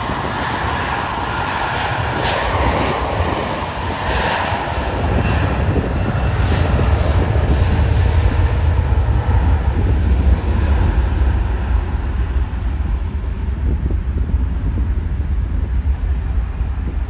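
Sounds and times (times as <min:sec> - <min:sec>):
airliner engine noise: 0:00.0 - 0:17.0
wind buffeting microphone: 0:00.0 - 0:17.0.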